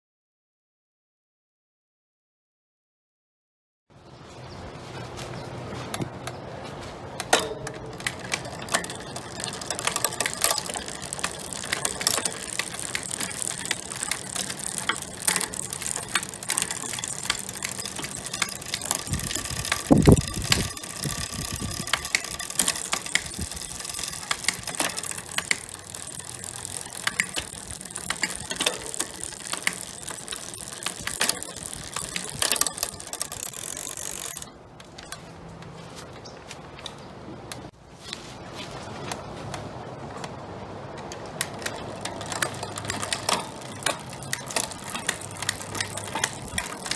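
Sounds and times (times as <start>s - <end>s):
bicycle chain clicking: 4.2s - 36.3s, 40.0s - 46.9s.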